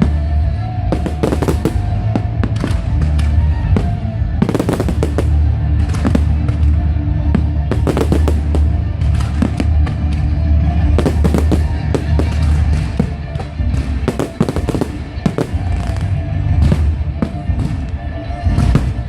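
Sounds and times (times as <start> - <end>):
fireworks bangs and crackles: 0.0 - 19.0
music with heavy bass: 0.0 - 19.0.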